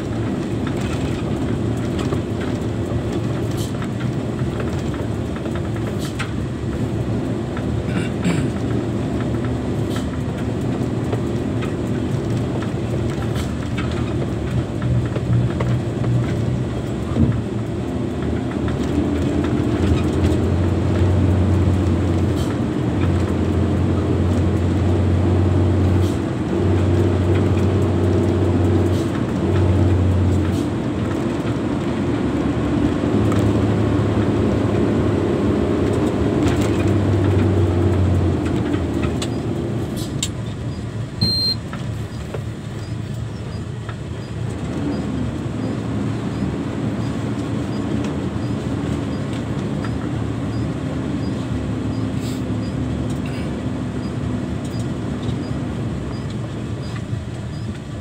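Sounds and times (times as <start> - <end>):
dirt road rumble: 0.0 - 58.0
truck diesel engine drone: 0.0 - 58.0.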